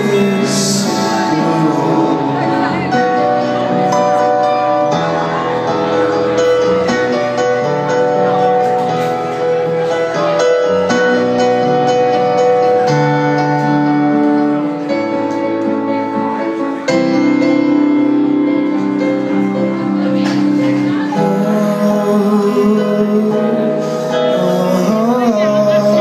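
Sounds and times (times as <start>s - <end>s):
live band playing pop music: 0.0s - 26.0s.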